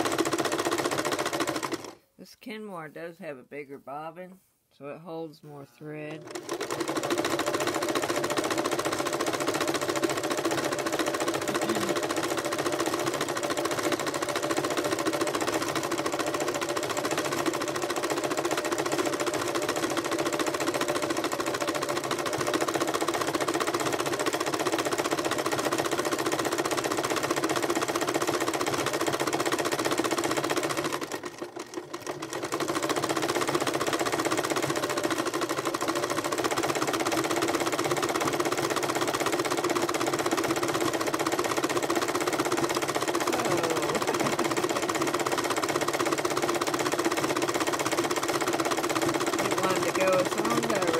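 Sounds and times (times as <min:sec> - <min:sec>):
sewing machine running: 0:00.0 - 0:02.1, 0:05.9 - 0:50.9.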